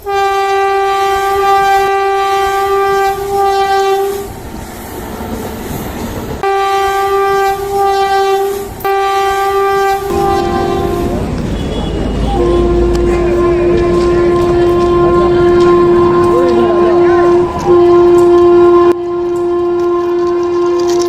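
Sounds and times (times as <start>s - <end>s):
train horn blasts: 0.0s - 4.4s, 6.4s - 21.0s
train rumbling and clattering: 0.0s - 21.0s.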